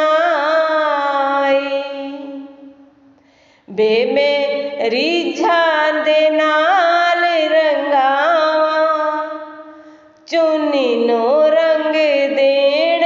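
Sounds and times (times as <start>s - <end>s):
person singing devotional song: 0.0s - 2.9s, 3.6s - 13.0s.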